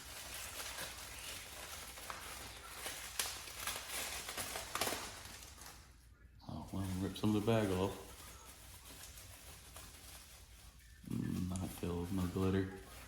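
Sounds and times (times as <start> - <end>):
packaging bag rustling: 0.0 - 13.0.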